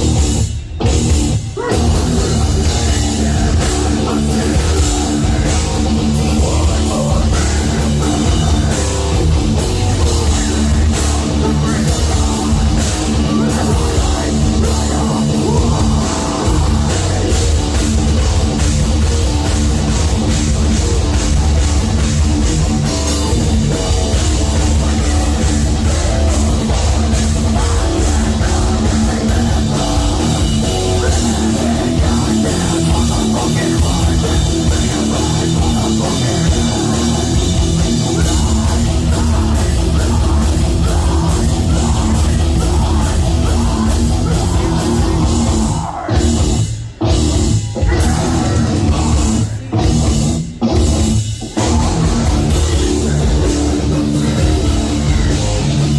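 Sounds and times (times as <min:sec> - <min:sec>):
heavy metal band playing: 0:00.0 - 0:55.9.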